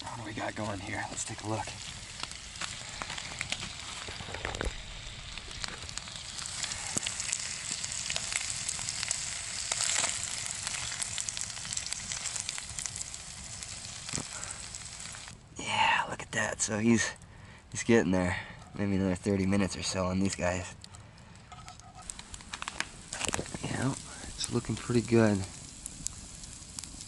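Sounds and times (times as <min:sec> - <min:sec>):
fish sizzling and popping in pan: 0:00.0 - 0:15.4, 0:18.4 - 0:27.0.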